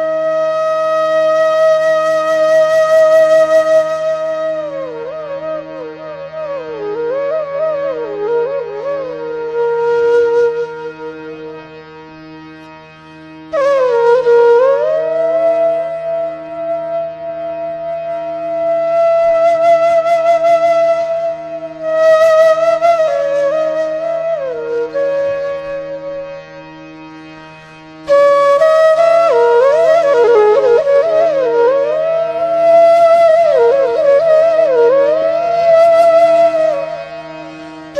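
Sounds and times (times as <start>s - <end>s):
flute melody: 0.0s - 11.8s, 13.3s - 26.8s, 27.6s - 37.9s.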